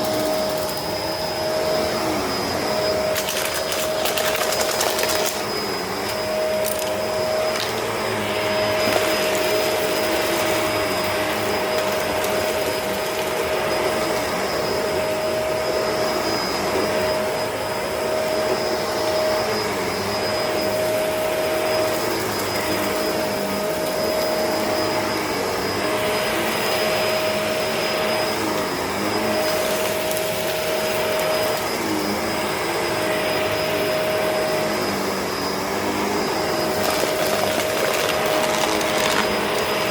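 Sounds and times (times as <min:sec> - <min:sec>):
upright vacuum cleaner whining: 0:00.0 - 0:39.9.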